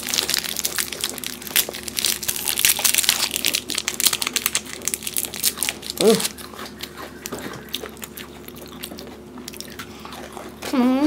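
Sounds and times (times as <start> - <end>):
plastic wrapper crinkling: 0.0 - 9.8.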